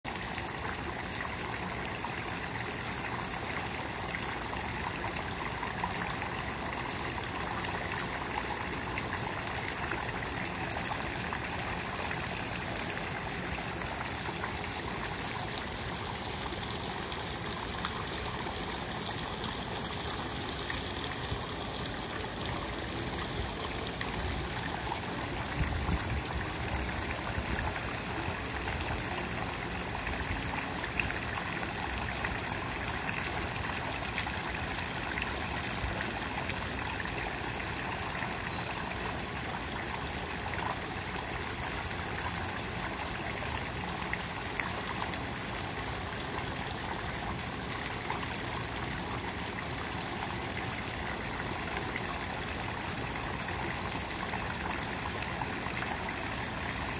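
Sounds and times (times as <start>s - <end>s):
fountain water splashing: 0.1s - 56.9s.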